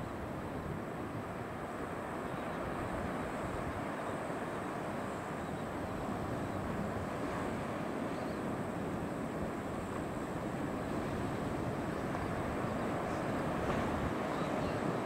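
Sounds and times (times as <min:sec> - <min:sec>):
ocean surf on rocky shore: 0:00.0 - 0:15.0.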